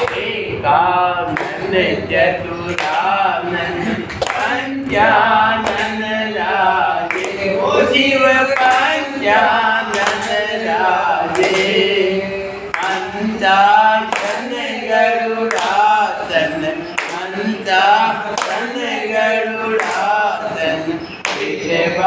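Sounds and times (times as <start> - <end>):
sharp claps keeping the beat: 0.0 - 0.6, 1.3 - 12.0, 12.7 - 21.6
group singing a chant: 0.0 - 22.0.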